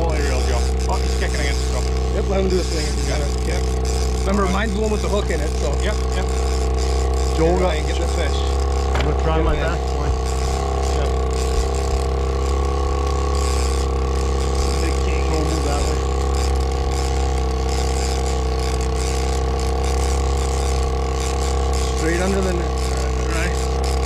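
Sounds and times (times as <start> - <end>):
outboard motor droning: 0.0 - 24.0.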